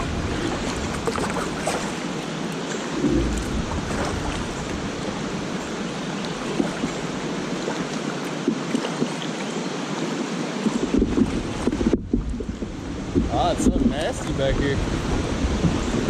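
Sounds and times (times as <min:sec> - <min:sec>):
wind rumble on microphone: 0:00.0 - 0:09.3, 0:10.0 - 0:16.0
rushing stream water: 0:00.0 - 0:16.0.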